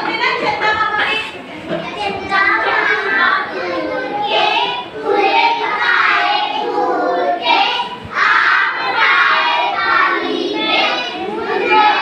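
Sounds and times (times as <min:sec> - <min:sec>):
children singing in unison: 0:02.3 - 0:12.0.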